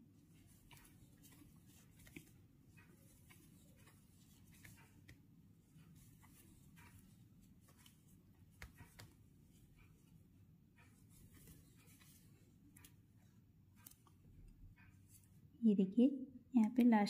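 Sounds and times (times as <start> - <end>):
crochet hook ticking on yarn: 0.3 - 15.6.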